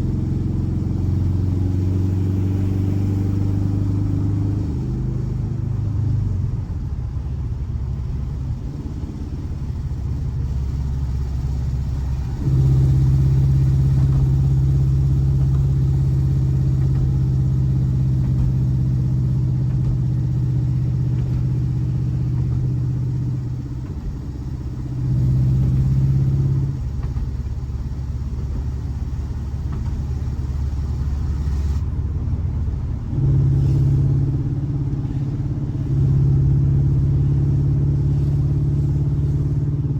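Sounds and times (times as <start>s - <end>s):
air-cooled car engine revving: 0.0s - 39.9s.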